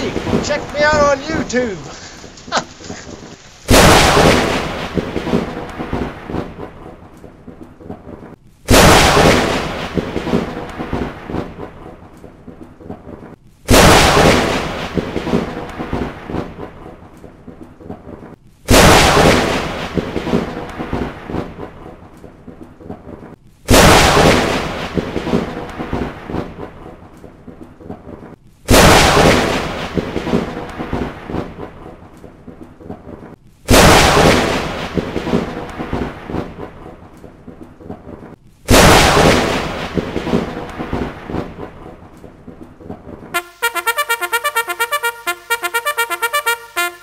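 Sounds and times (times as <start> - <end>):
thunderclaps: 0.0 - 47.0.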